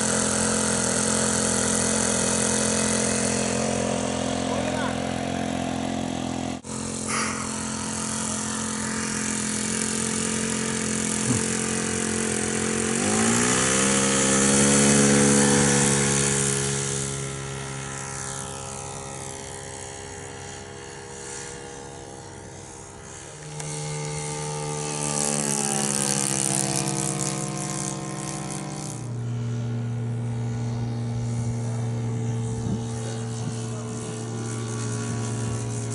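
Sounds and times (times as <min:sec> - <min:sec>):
model aircraft engine buzzing: 0:00.0 - 0:35.9.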